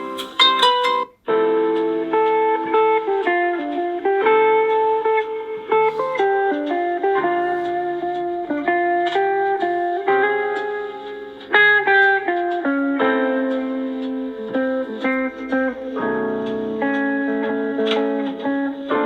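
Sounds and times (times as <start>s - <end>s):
plucked-guitar ringtone melody: 0.0s - 19.0s.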